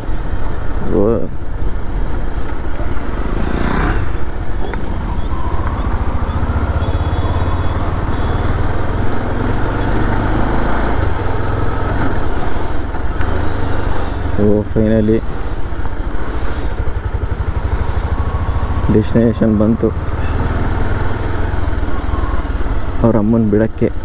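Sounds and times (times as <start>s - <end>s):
road and wind noise: 0.0s - 24.0s
motorcycle engine running: 1.4s - 23.1s.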